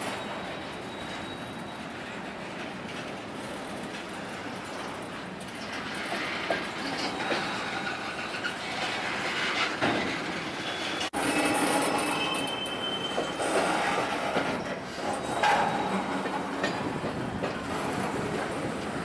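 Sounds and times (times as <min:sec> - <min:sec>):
railroad cars rolling: 0:00.0 - 0:19.0
steel wheels squealing on rail: 0:00.0 - 0:19.0.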